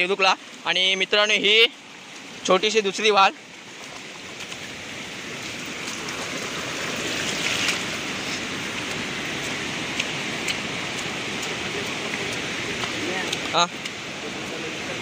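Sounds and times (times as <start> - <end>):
brook water rushing: 0.0 - 15.0.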